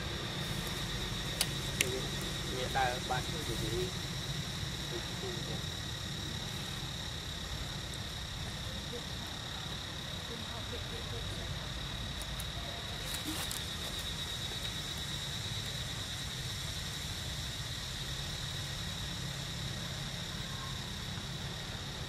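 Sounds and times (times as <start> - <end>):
insect drone: 0.0 - 22.0.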